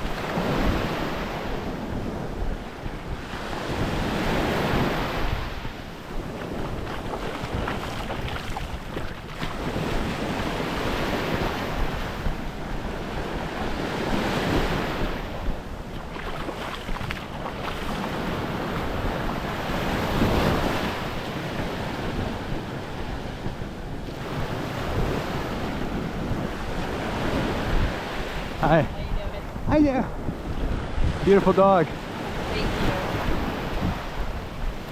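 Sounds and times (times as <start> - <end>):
small waves washing on beach: 0.0 - 34.9
wind buffeting microphone: 0.0 - 34.9.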